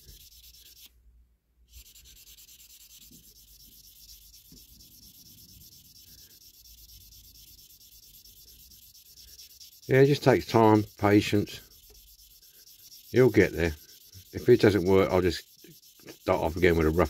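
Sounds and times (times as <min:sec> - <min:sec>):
sanding stick scratching plastic: 0:00.0 - 0:00.9, 0:01.7 - 0:17.0.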